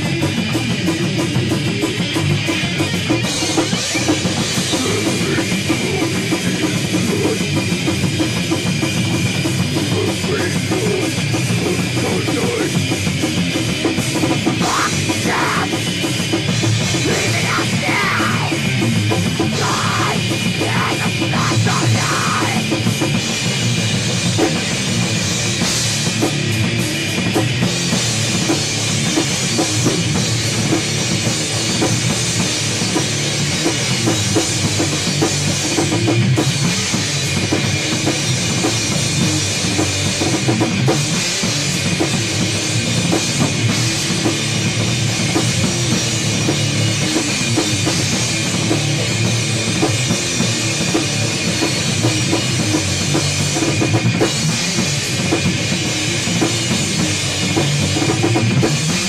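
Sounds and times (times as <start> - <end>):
distorted electric guitar: 0.0 - 59.0
drum kit: 0.0 - 59.0
electric bass: 0.0 - 59.0.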